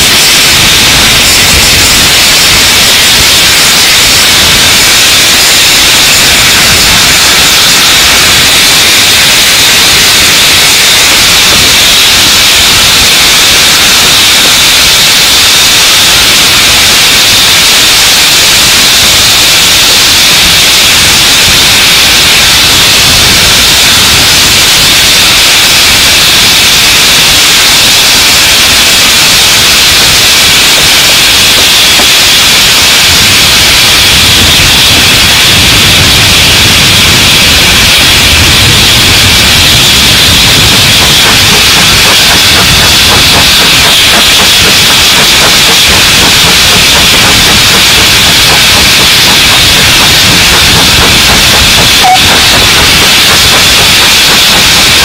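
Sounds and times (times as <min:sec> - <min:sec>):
wind hissing on microphone: 0:00.0 - 0:13.2, 0:18.2 - 0:55.0
train running noise: 0:00.0 - 0:55.0.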